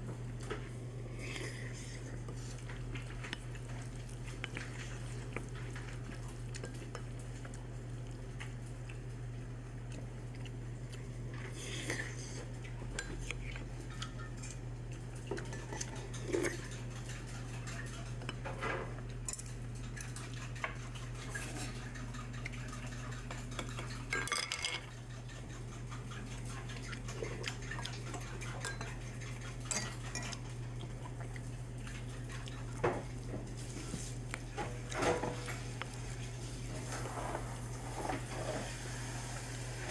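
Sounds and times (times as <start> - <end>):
steady low hum: 0.0 - 38.6.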